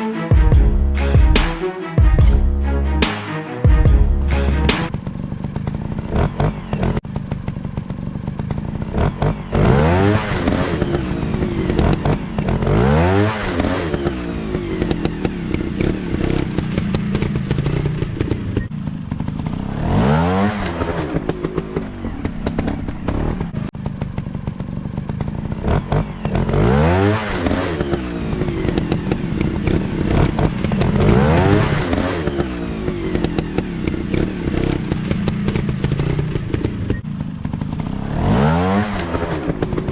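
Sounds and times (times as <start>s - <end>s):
dirt bike engines revving: 4.2s - 23.6s, 24.8s - 39.9s.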